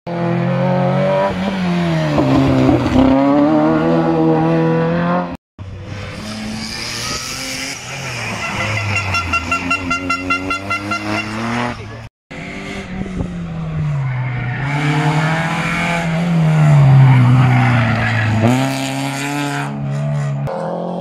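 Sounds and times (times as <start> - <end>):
rally car engines revving: 0.1 - 21.0.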